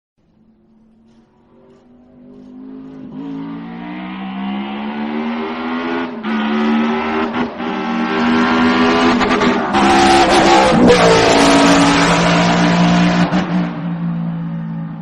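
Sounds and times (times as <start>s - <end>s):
engine revving: 1.4s - 14.0s.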